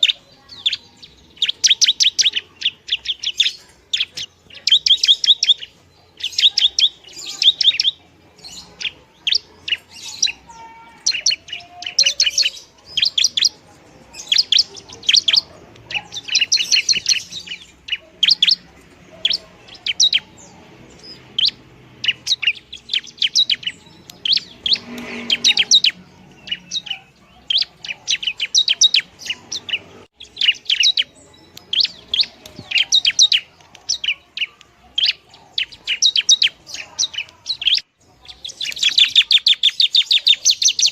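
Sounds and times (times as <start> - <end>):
shrike chattering song: 0.0 - 40.9.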